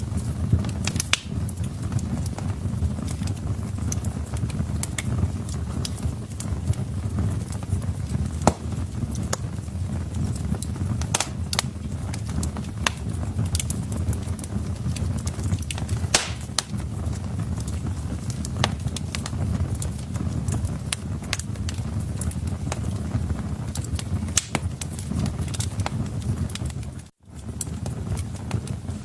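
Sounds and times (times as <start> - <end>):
logs crackling and popping: 0.0 - 29.0
wood fire rumbling: 0.0 - 29.0.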